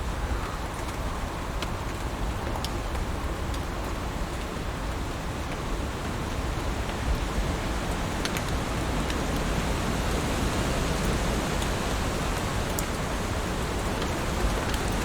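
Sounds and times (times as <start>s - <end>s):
heavy rain falling: 0.1s - 15.0s.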